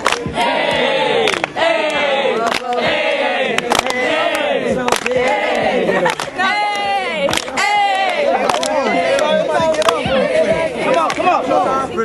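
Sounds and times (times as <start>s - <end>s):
group of voices chanting: 0.0s - 11.9s.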